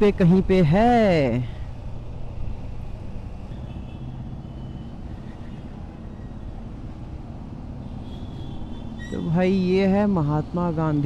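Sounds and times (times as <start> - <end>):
road rumble: 0.0 - 11.0.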